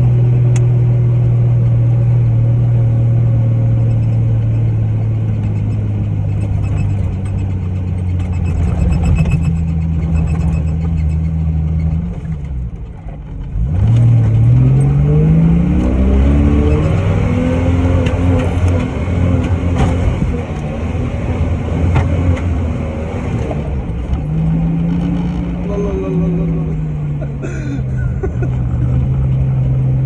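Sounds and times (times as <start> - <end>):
off-road vehicle engine accelerating: 0.0 - 30.0.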